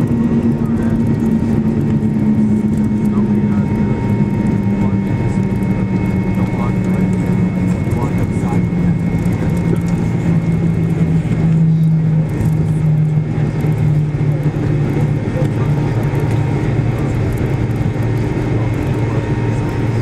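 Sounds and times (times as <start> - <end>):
airplane cabin engine hum: 0.0 - 20.0.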